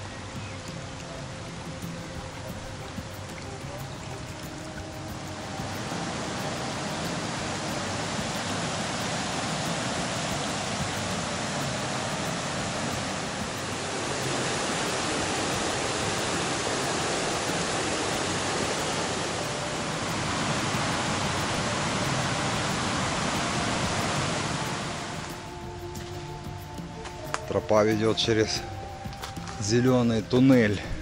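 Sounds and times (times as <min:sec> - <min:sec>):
stream rushing over rocks: 0:00.0 - 0:27.6.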